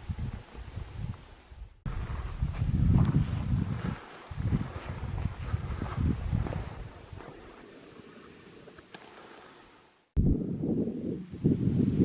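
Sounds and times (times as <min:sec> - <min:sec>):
wind buffeting microphone: 0:00.0 - 0:08.7, 0:10.2 - 0:12.0.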